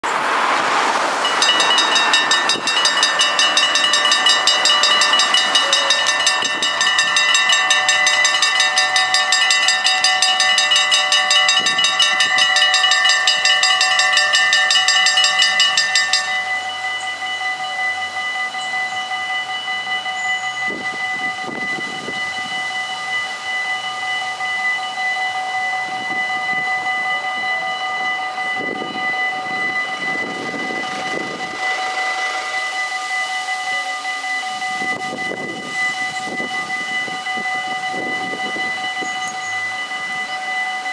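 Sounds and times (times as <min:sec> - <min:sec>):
level crossing bells ringing: 0:01.1 - 0:40.9.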